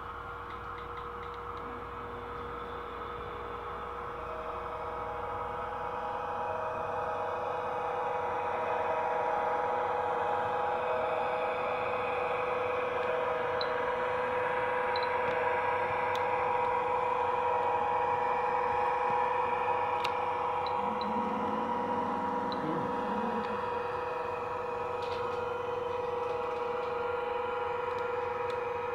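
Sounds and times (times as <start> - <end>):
model trains humming drone: 0.0 - 28.9.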